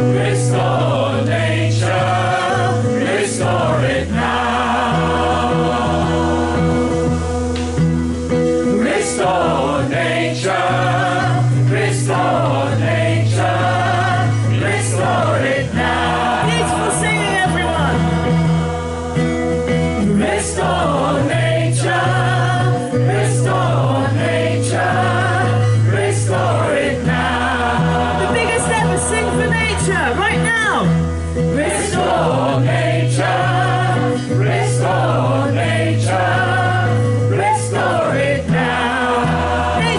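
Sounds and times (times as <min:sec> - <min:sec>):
choir singing: 0:00.0 - 0:07.9, 0:08.6 - 0:39.9.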